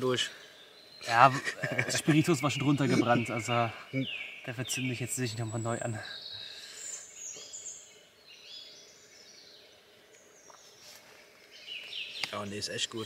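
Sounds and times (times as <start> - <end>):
quiet background noise: 0.0 - 13.0
songbird warbling: 0.0 - 13.0.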